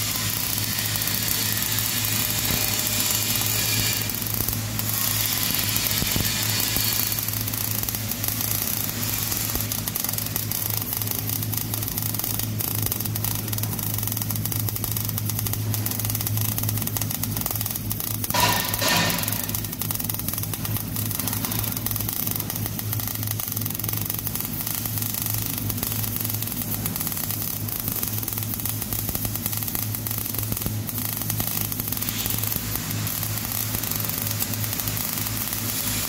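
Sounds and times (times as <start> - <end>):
steady low hum: 0.0 - 36.0
welding arc crackling hiss: 0.0 - 36.0.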